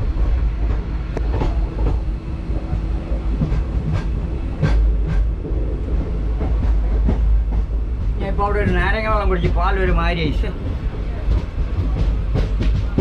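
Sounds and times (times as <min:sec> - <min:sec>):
train rumble from inside: 0:00.0 - 0:13.0
wheels clacking over rail joints: 0:00.0 - 0:13.0.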